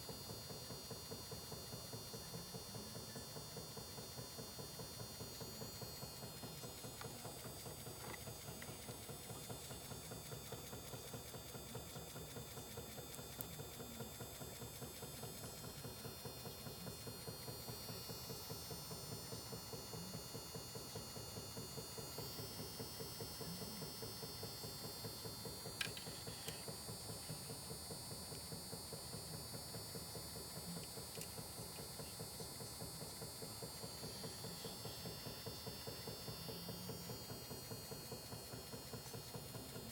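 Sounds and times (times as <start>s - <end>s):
machine rapid even ticking: 0.1s - 39.9s.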